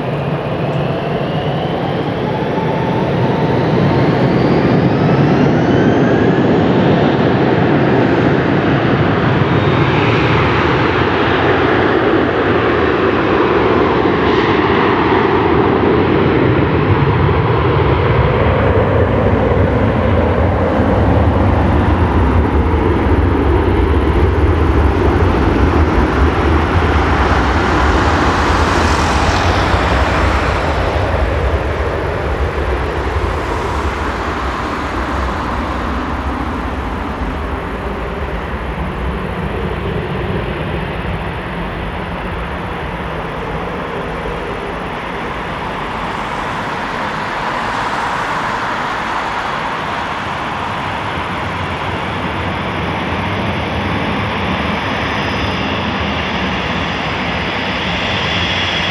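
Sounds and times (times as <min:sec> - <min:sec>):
jet engines at high thrust: 0:00.0 - 0:58.9.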